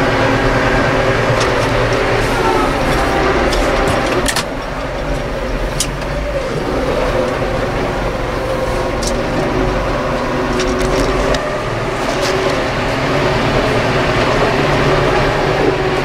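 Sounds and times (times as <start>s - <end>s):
tractor diesel engine idling: 0.0s - 16.0s.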